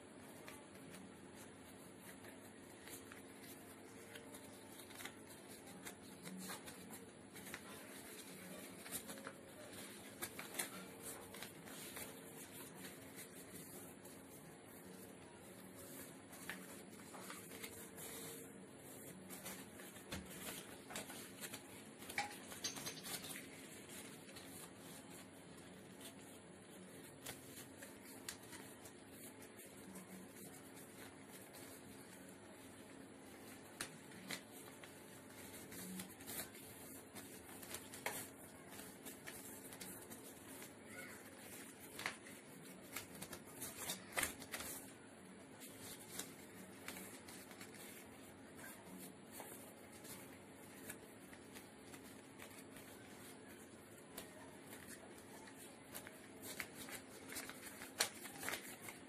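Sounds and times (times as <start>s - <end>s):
paper rustling and crinkling: 0.0s - 59.0s.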